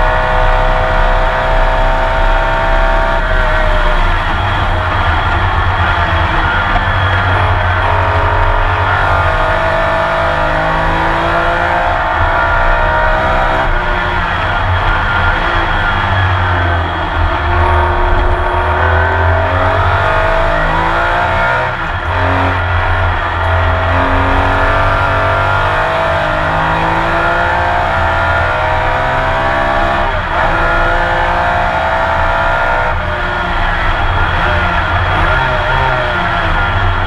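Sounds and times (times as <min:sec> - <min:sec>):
racing engine accelerating: 0:00.0 - 0:37.0.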